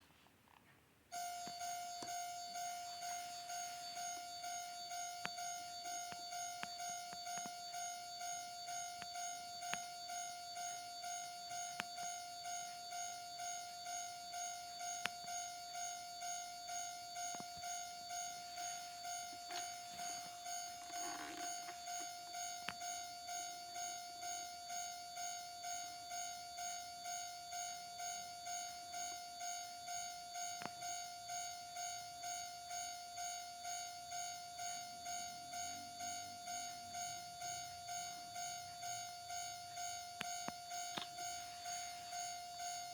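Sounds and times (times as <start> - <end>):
electronic crossing warning bell: 1.1 - 42.9.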